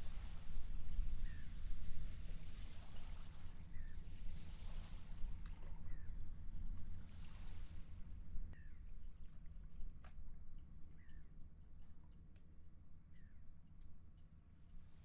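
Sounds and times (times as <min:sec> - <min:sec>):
low rumble of wind and sea: 0:00.0 - 0:15.0.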